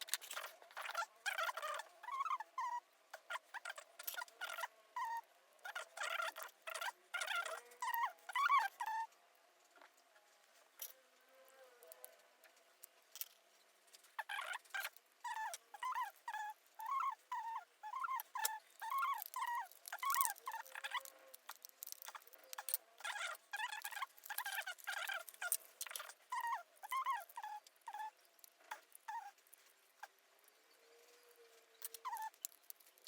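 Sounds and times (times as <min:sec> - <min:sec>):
small animal squeaking: 0:00.0 - 0:09.2, 0:14.1 - 0:30.2, 0:31.8 - 0:33.0.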